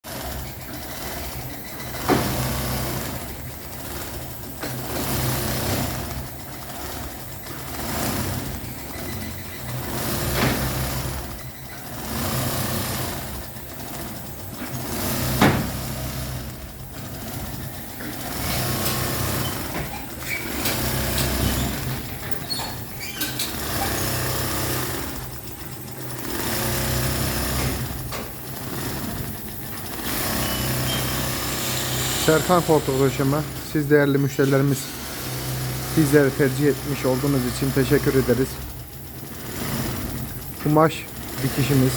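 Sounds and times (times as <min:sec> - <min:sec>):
sewing machine stitching: 0:00.0 - 0:41.9.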